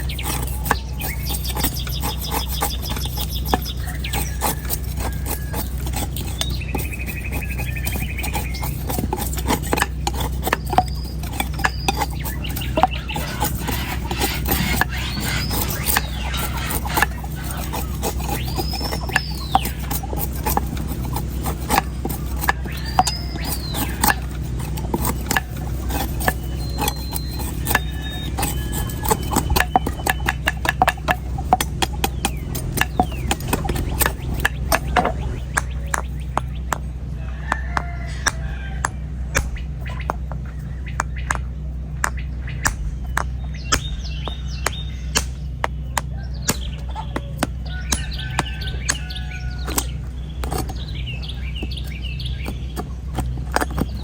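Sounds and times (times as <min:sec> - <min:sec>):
birds chirping: 0:00.0 - 0:54.0
knife striking coconut husk: 0:00.0 - 0:54.0
steady low hum: 0:00.0 - 0:54.0.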